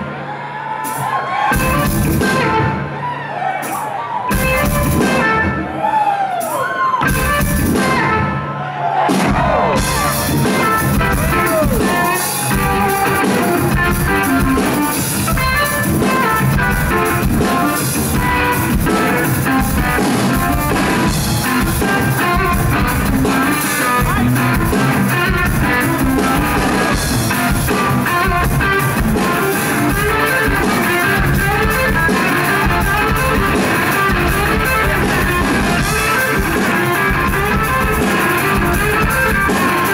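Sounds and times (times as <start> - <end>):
drum kit playing: 0.0 - 39.9
electric guitar bending notes: 7.0 - 8.5, 9.4 - 39.9.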